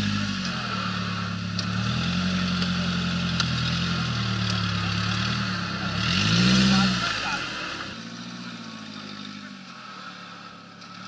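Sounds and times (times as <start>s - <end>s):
vehicle engine at low revs: 0.0s - 11.0s.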